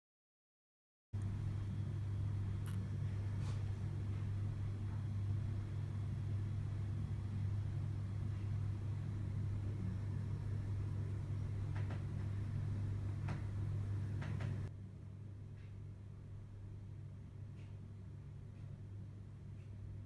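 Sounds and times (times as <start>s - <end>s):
steady low hum: 1.2s - 20.0s.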